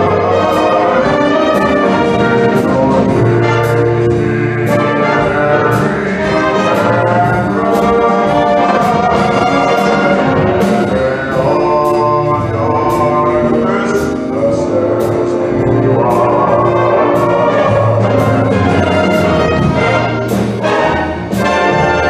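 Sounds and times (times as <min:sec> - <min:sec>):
brass band playing swing music: 0:00.0 - 0:22.0
sharp percussion hits: 0:00.0 - 0:22.0.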